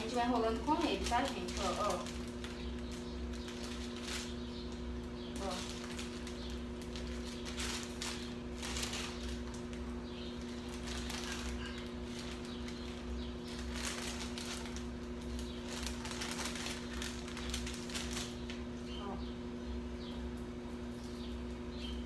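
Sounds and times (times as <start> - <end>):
parchment paper crinkling: 0.0 - 18.9
low electrical hum: 0.0 - 22.0.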